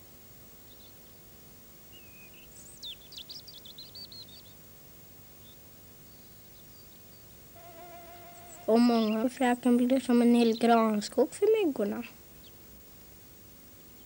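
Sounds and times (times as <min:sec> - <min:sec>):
faint steady hum: 0:00.0 - 0:14.0
songbird singing: 0:00.0 - 0:14.0.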